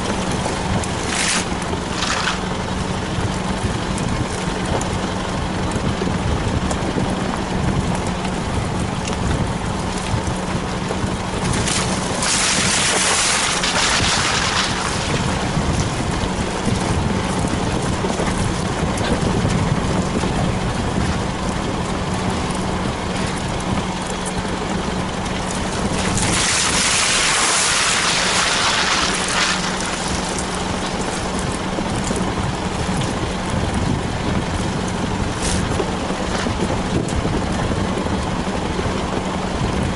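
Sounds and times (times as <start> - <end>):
engine drone: 0.0 - 39.9
rumbling tyre and body noise: 0.0 - 39.9.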